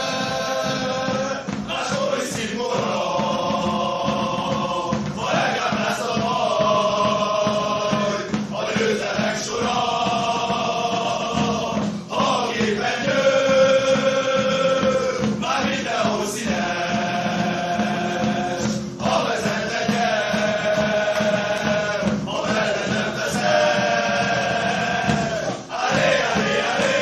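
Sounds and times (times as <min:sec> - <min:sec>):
chorus singing chant-like song: 0:00.0 - 0:27.0
steady beat: 0:00.0 - 0:27.0.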